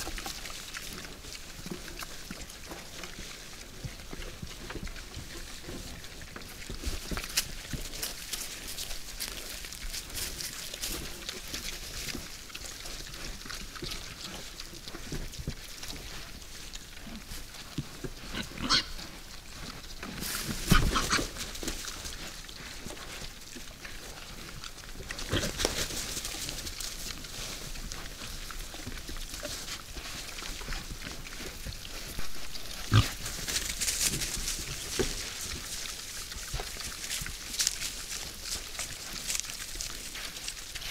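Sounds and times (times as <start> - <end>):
boars chewing and rooting: 0.0 - 40.9.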